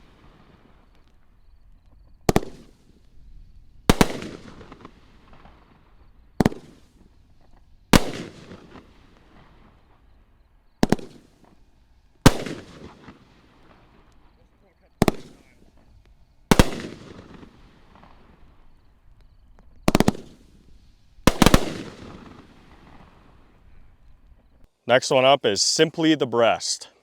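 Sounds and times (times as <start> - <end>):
firework shells launching: 0.0 - 10.1, 10.7 - 14.4, 15.0 - 24.6
firework burst with crackling tail: 0.0 - 24.6.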